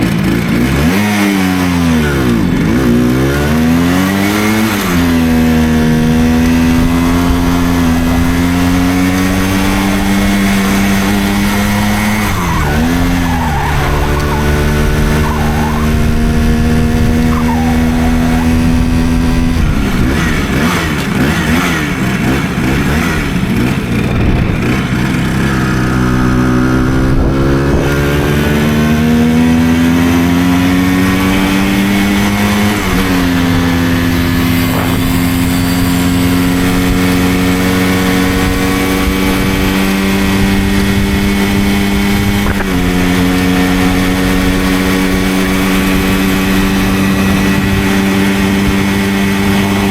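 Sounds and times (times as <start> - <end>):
moped two-stroke engine: 0.0 - 49.9.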